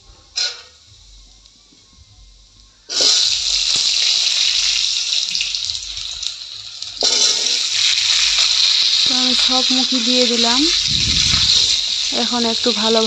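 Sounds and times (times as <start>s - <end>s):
hot oil sizzling: 2.4s - 13.0s.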